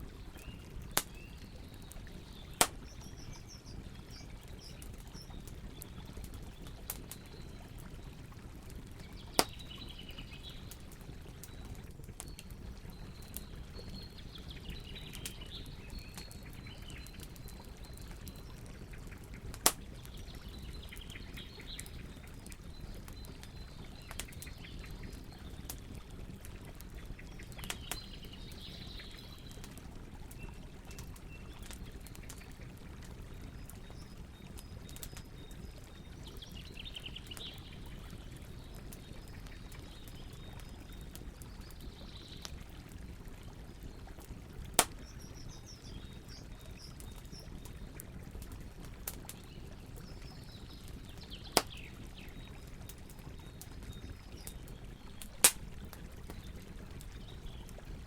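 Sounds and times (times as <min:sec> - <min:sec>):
campfire crackling: 0:00.0 - 0:58.0
small birds chirping: 0:00.1 - 0:44.0, 0:44.8 - 0:48.1, 0:48.8 - 0:58.0.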